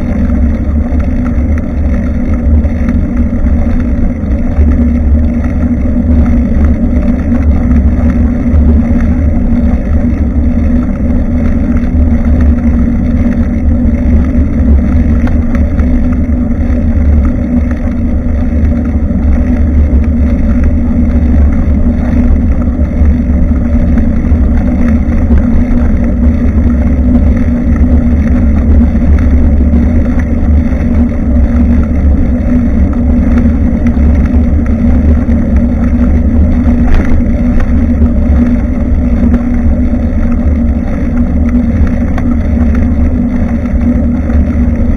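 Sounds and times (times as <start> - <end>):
constant low hum: 0.0 - 44.9
wind noise on microphone: 0.0 - 44.9.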